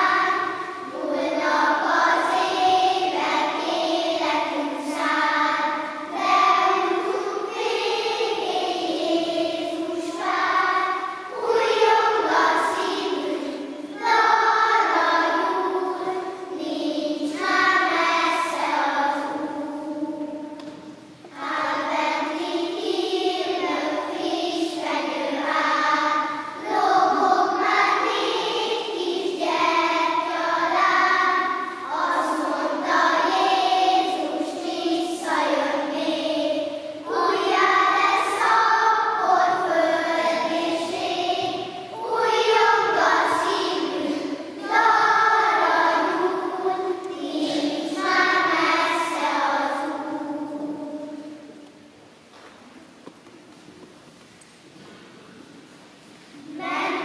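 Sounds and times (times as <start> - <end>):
children's choir singing: 0.0 - 52.9, 54.8 - 57.0.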